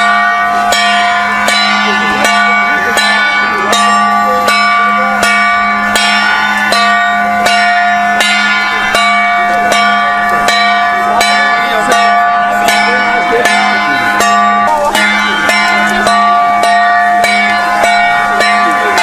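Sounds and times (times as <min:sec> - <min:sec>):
bell struck evenly: 0:00.0 - 0:19.0.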